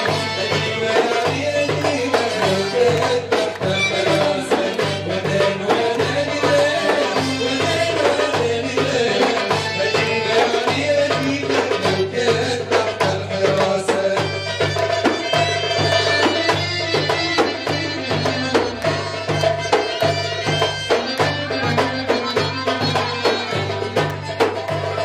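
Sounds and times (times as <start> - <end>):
folk dance music with drum beat: 0.0 - 25.0.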